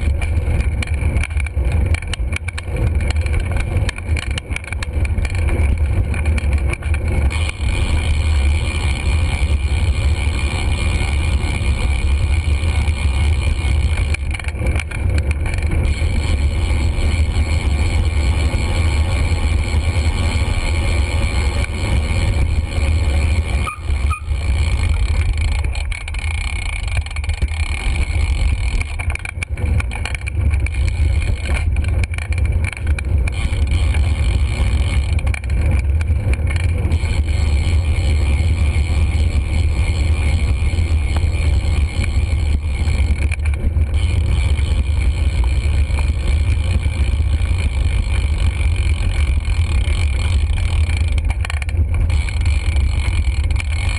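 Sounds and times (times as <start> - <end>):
road noise: 0.0 - 53.9.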